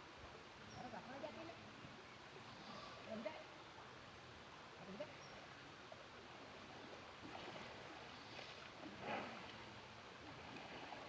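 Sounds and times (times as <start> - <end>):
faint flowing water: 0.0 - 11.0.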